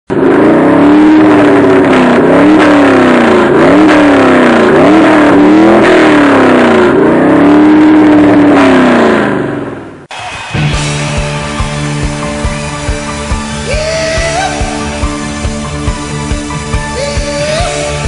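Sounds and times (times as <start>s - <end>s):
car engine revving: 0.1s - 18.0s.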